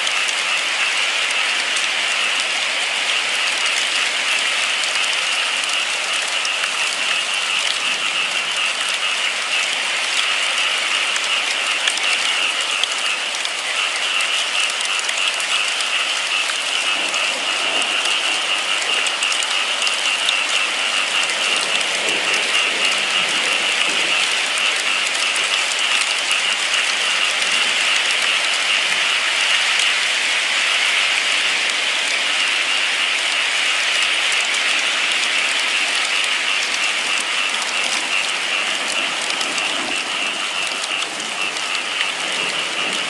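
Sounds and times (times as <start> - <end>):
steady rainfall: 0.0 - 43.0.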